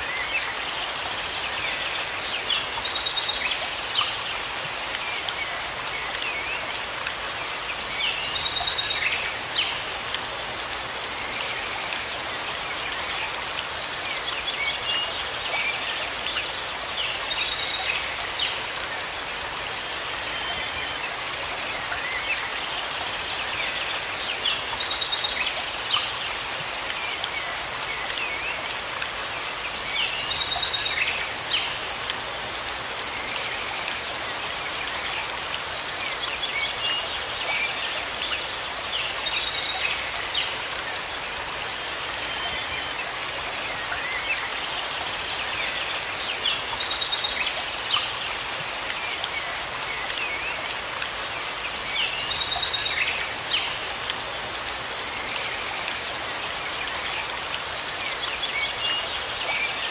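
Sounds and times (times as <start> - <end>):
rain on leaves: 0.0 - 59.9.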